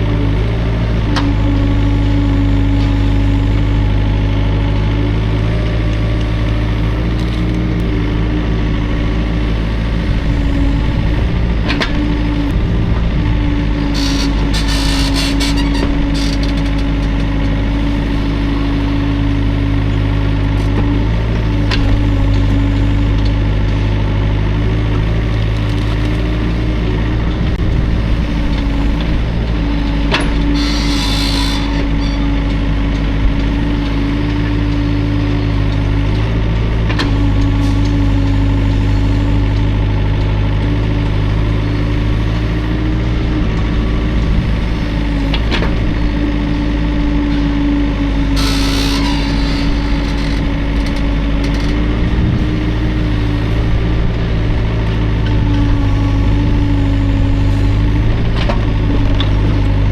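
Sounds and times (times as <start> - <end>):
constant whine: 0.0 - 59.9
excavator engine running: 0.0 - 59.9.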